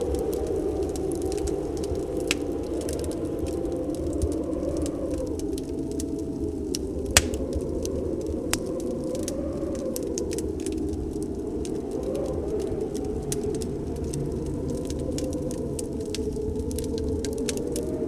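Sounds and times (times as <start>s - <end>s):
fire popping: 0.0s - 18.0s
howling snowstorm wind: 0.0s - 18.0s
wood fire crackling: 0.0s - 18.0s.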